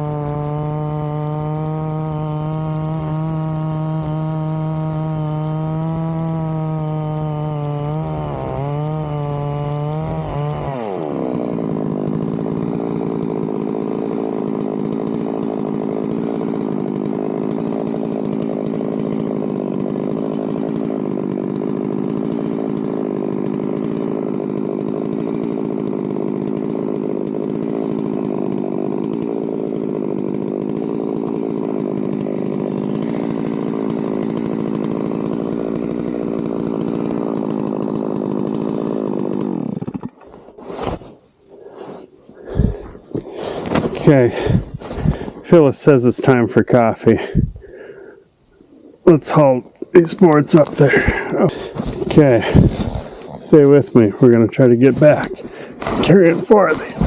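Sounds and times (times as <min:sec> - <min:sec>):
chainsaw sawing a log: 0:00.0 - 0:57.0.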